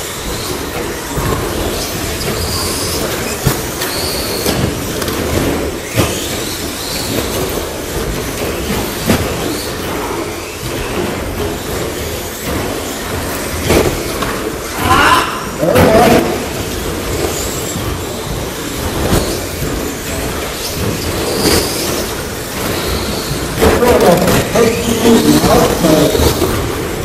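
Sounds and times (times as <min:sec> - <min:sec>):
rc truck motors whining: 0:00.0 - 0:14.7, 0:16.5 - 0:27.0.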